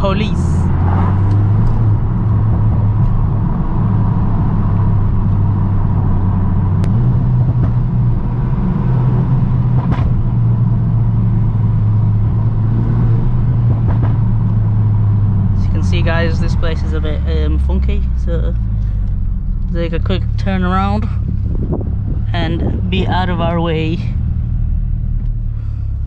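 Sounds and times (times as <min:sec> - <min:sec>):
car engine drone inside cabin: 0:00.0 - 0:26.0.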